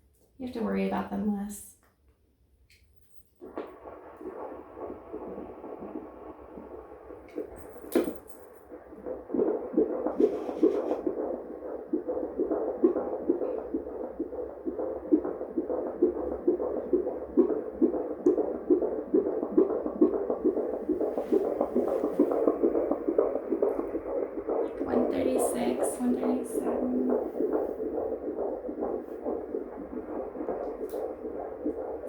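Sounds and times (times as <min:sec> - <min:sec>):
fetal heartbeat whooshing pulses: 0:03.0 - 0:32.0.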